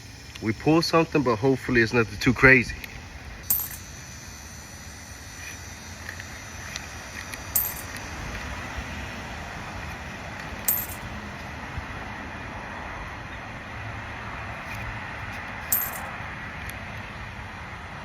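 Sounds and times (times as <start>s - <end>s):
passing traffic rumble: 0.0s - 18.0s.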